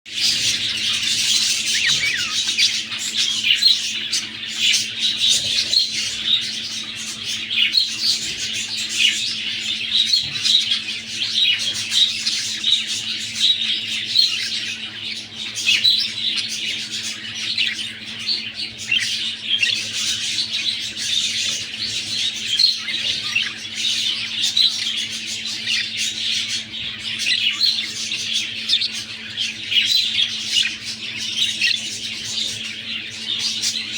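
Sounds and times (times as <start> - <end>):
budgerigars chattering and squawking: 0.1 - 33.9
faint steady hum: 0.1 - 33.9.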